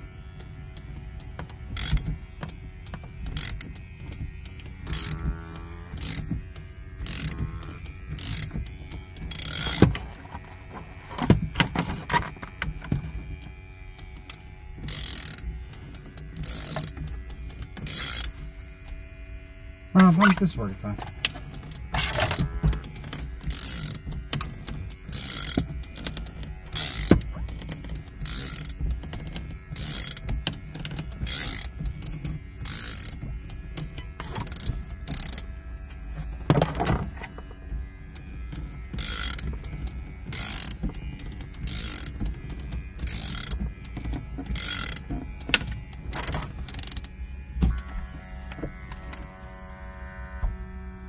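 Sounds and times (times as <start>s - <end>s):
vacuum pump humming: 0.0s - 51.0s
ratchet winder rasping: 0.4s - 18.4s, 20.0s - 35.6s, 36.2s - 49.1s.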